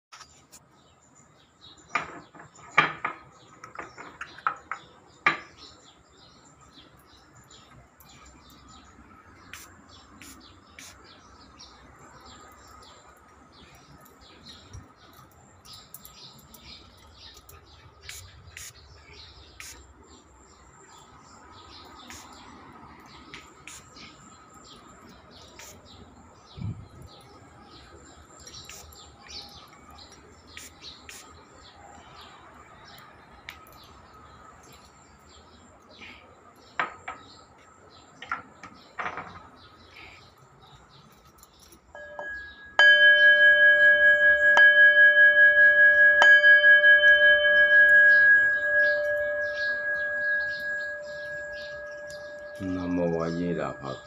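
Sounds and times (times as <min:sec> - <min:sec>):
small birds chirping: 0:00.1 - 0:44.5, 0:45.5 - 0:54.0.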